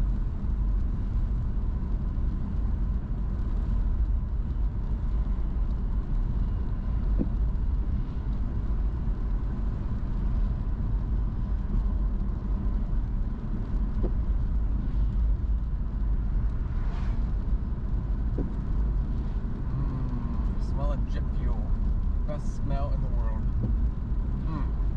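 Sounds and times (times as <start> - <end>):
car road and engine rumble: 0.0 - 24.9.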